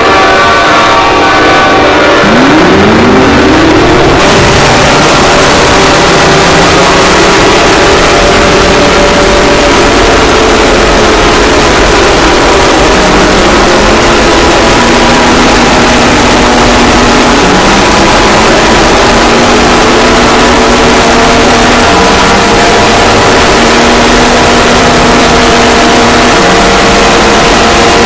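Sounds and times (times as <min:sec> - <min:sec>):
distorted alarm noise: 0:00.0 - 0:28.0
electronic alert tones: 0:02.2 - 0:28.0.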